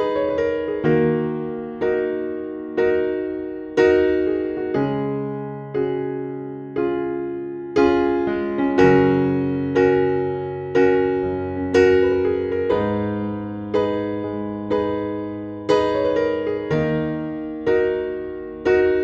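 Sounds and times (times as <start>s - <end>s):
electric piano chords: 0.0s - 19.0s.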